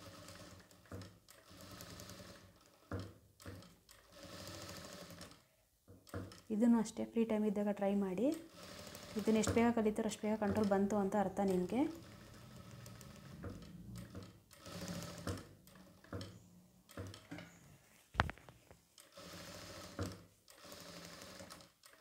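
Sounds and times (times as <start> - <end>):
sewing machine stitching: 0.0 - 6.7, 7.9 - 17.6, 19.0 - 22.0.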